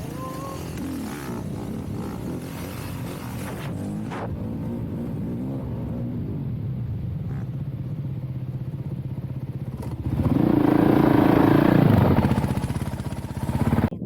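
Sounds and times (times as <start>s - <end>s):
dirt bike engine revving: 0.0s - 7.8s, 9.6s - 14.0s.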